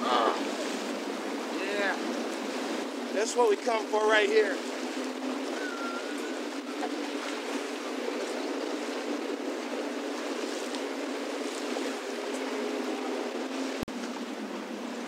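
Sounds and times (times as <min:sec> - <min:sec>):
water lapping against rocks: 0:00.0 - 0:15.0.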